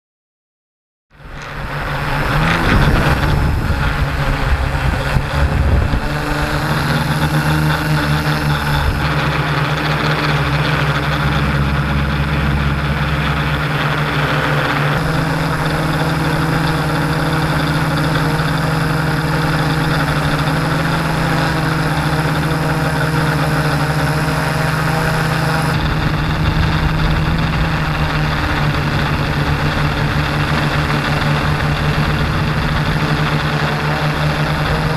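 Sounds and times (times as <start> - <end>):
drone propellers humming: 1.1 - 34.9.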